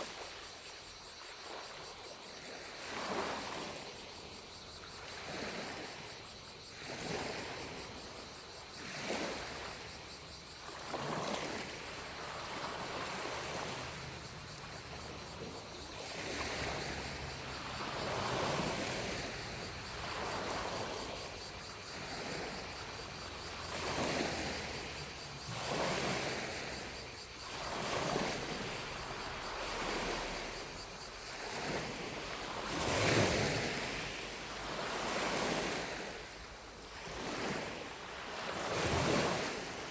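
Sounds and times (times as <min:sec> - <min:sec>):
distant cicadas droning: 0:00.0 - 0:39.9
lake waves lapping on shore: 0:00.0 - 0:39.9.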